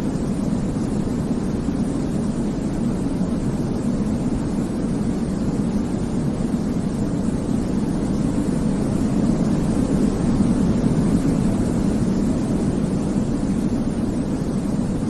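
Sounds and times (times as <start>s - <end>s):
low rumbling white noise: 0.0s - 15.0s.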